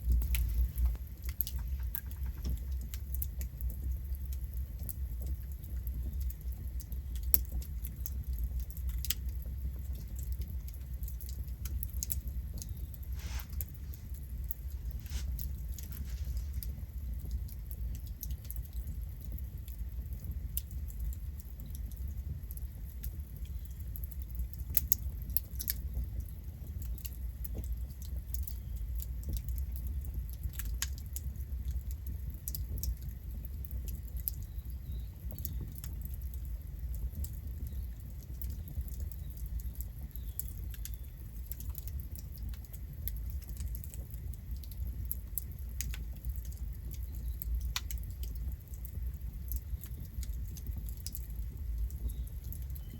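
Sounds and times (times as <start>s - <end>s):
low fire rumble: 0.0s - 52.9s
wood fire crackling and popping: 0.0s - 52.9s.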